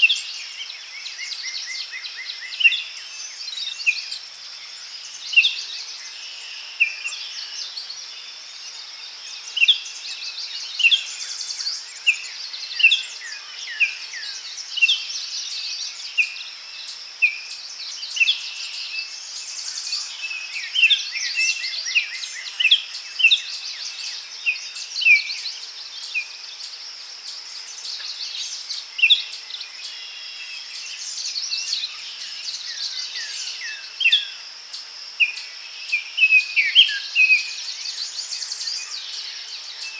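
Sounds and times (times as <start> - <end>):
high-pitched insect hum: 0.0 - 39.9.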